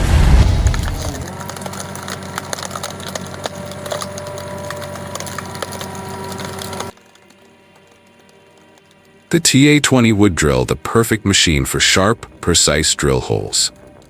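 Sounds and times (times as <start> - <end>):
wood cracking and snapping: 0.1 - 10.7, 13.0 - 14.0
wood-processing machine humming: 0.1 - 14.0.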